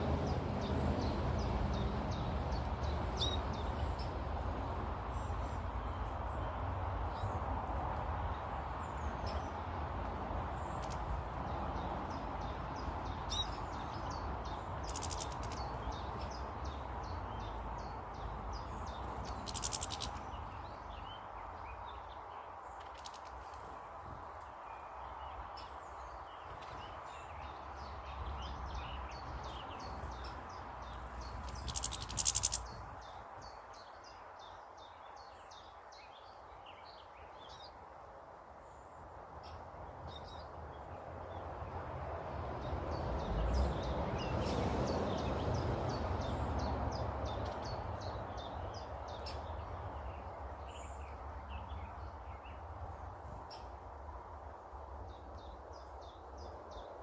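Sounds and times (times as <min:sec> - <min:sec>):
small birds chirping: 0:00.0 - 0:41.8, 0:42.6 - 0:57.0.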